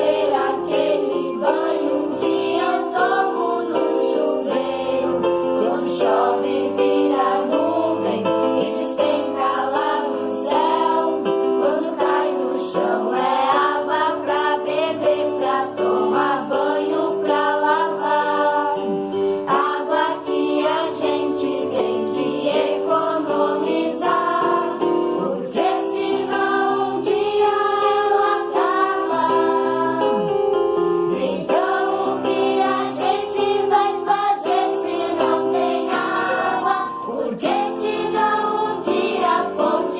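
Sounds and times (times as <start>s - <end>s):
instrumental backing: 0.0s - 39.9s
voices singing: 0.0s - 39.9s.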